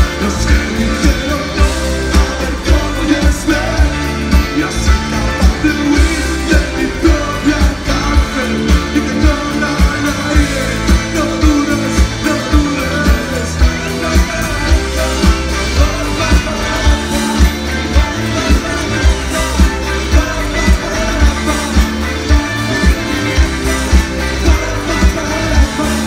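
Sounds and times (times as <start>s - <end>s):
person singing: 0.0s - 26.0s
rock band playing: 0.0s - 26.0s.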